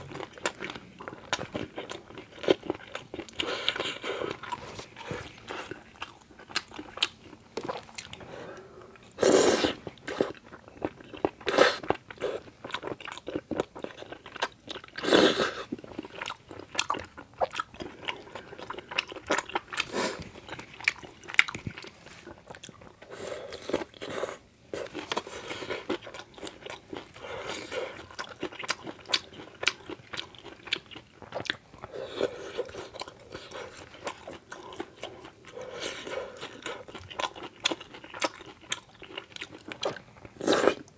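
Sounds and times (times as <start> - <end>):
chewing and mouth sounds: 0.0 - 40.9.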